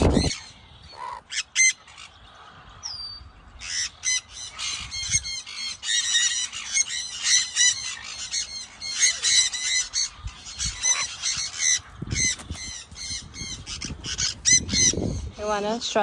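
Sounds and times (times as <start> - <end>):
parrots squawking: 0.0 - 15.6.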